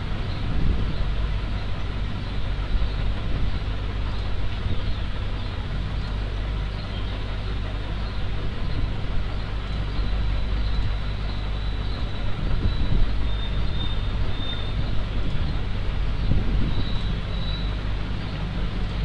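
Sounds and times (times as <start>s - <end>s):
low rumbling background noise: 0.0s - 19.0s.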